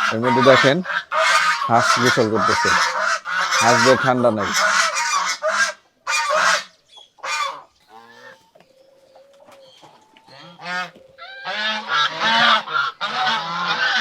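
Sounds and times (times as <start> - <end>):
geese honking: 0.0 - 8.5, 9.9 - 14.0.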